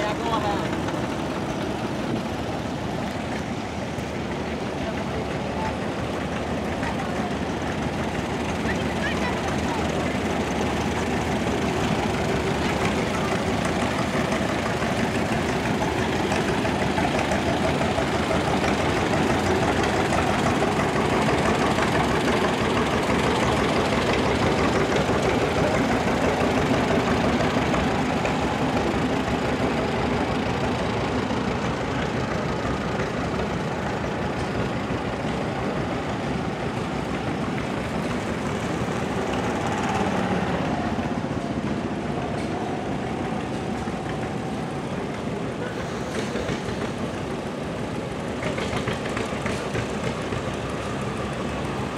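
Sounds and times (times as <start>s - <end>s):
tractor engines running: 0.0s - 51.9s.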